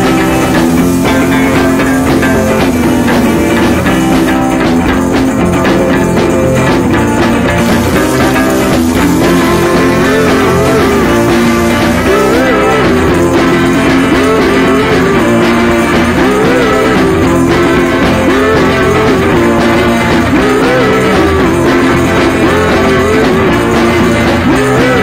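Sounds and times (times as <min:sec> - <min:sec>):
rock music with guitar riff: 0:00.0 - 0:25.0.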